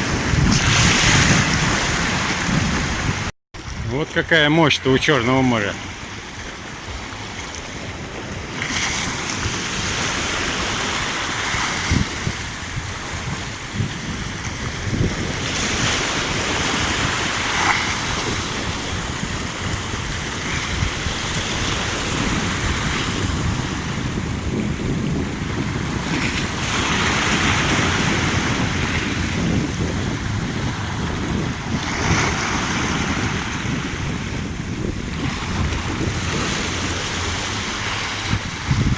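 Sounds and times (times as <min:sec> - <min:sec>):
wind buffeting microphone: 0:00.0 - 0:04.4, 0:05.8 - 0:38.9
surf breaking on shore: 0:00.0 - 0:38.9.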